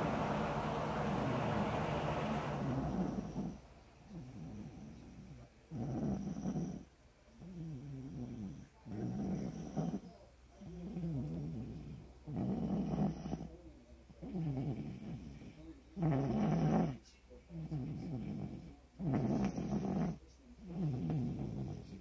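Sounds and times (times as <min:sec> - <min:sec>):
rattling snores: 0:00.0 - 0:13.6, 0:14.2 - 0:22.0.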